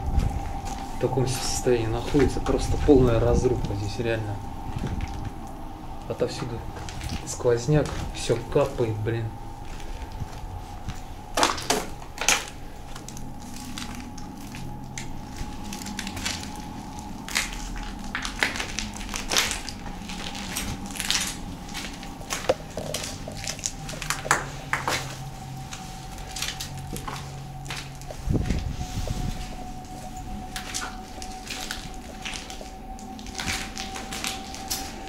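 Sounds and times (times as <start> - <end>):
footsteps crunching over debris: 0.0 - 35.0.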